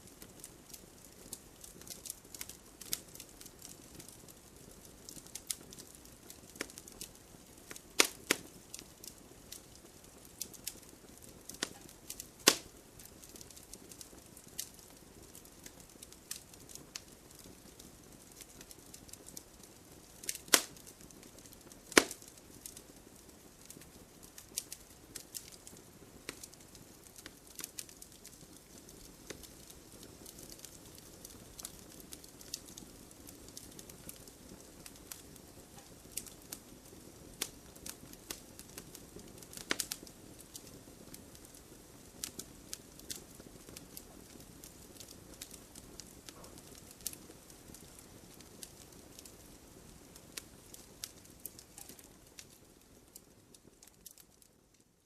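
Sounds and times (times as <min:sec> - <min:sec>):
soft steady hiss: 0:00.0 - 0:55.0
wood fire crackling: 0:00.0 - 0:55.0.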